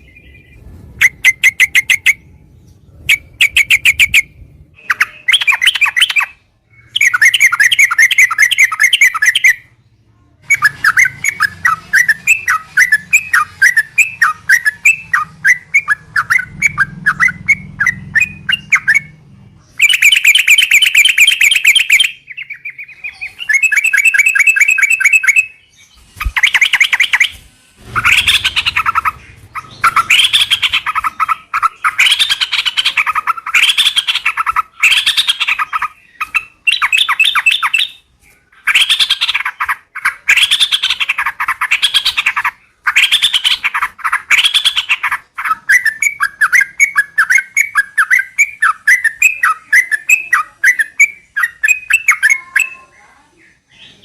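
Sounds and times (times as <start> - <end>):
fast rising bird chirps: 0.0 - 9.7, 10.5 - 52.8
bird singing bubbling phrases: 0.0 - 27.4, 28.0 - 54.0.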